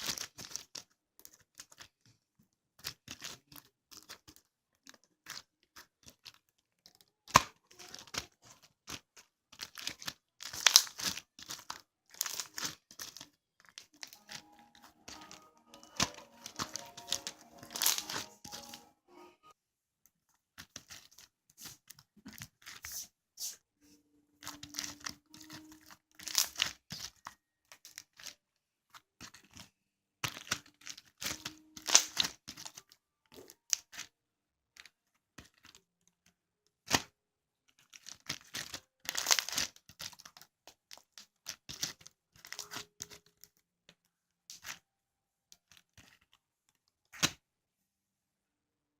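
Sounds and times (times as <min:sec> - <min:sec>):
crinkling and tearing: 0:00.0 - 0:18.9, 0:20.2 - 0:23.6, 0:24.4 - 0:44.8, 0:45.5 - 0:47.4.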